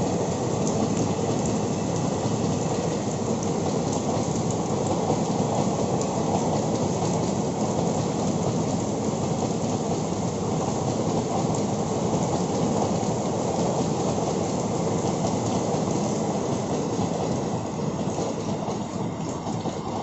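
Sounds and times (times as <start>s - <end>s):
heavy rain falling: 0.0s - 20.0s
train coaches rumbling past: 0.0s - 20.0s.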